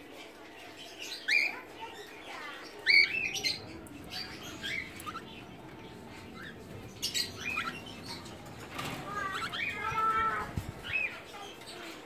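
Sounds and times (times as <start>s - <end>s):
cockatiels chirping: 1.0s - 11.4s.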